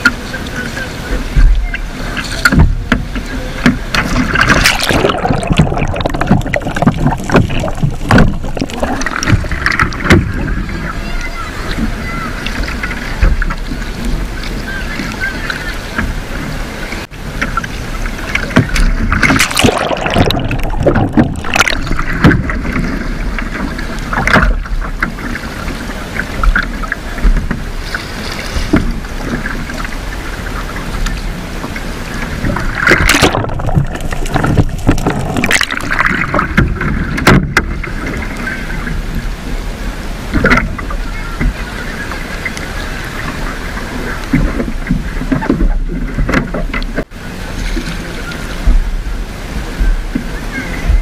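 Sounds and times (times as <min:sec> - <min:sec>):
steady rushing water: 0:00.0 - 0:51.0
water splashing around kayak: 0:00.0 - 0:51.0.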